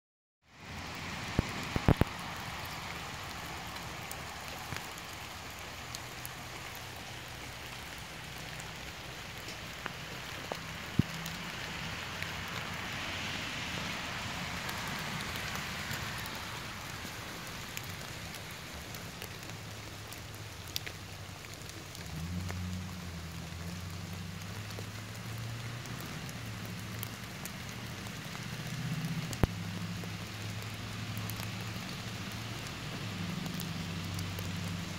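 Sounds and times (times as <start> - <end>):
steady rain falling: 0.4 - 34.9.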